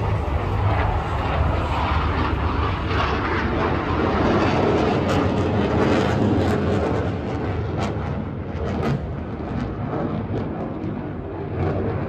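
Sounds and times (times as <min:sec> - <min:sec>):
airplane flying overhead: 0:00.0 - 0:12.0.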